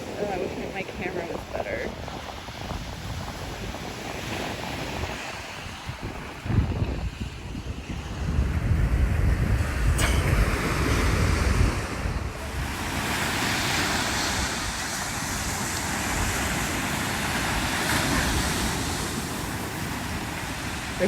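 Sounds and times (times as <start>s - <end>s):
ocean surf washing on beach: 0.0s - 21.0s
wind buffeting microphone: 0.0s - 21.0s.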